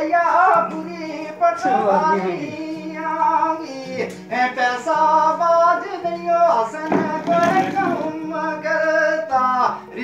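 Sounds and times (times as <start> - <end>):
person singing: 0.0 - 10.0.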